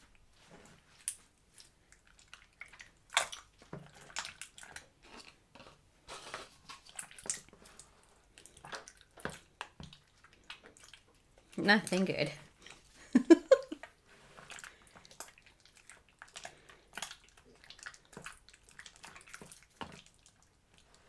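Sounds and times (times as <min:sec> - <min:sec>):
slime squelching: 0:00.4 - 0:13.0, 0:13.8 - 0:21.0.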